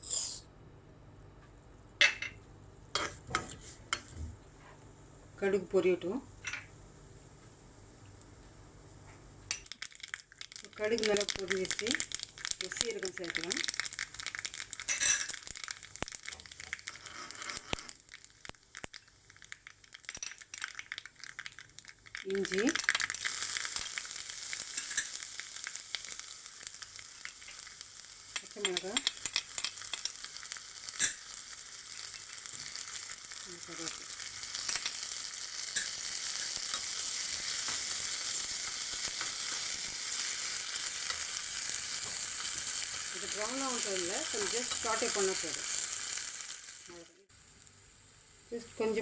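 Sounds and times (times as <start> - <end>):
seeds crackling in hot oil: 2.0 - 49.0.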